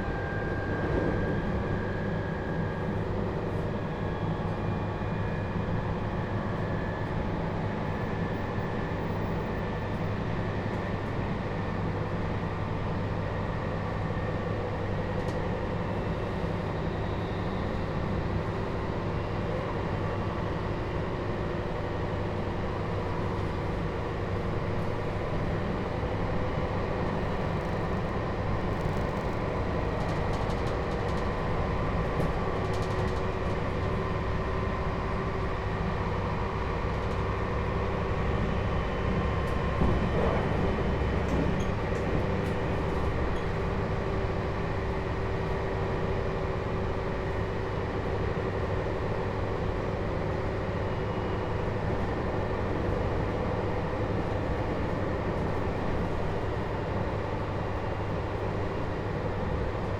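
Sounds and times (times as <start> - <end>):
faint tones from train drive: 0.0 - 59.9
rumble of wheels on rail: 0.0 - 59.9.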